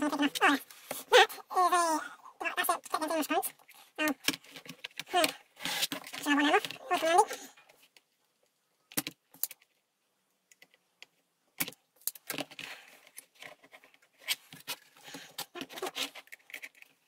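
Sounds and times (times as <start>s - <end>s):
small clicks and rattles: 2.8s - 17.0s.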